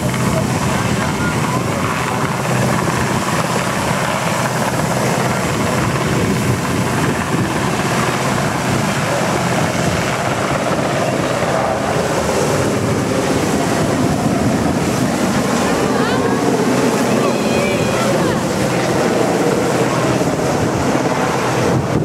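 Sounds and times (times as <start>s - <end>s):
helicopter rotors and engines: 0.0s - 22.0s.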